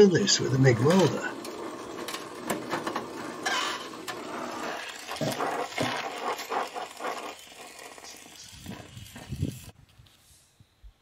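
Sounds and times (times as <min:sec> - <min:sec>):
welding torch flame hissing: 0:00.0 - 0:10.6.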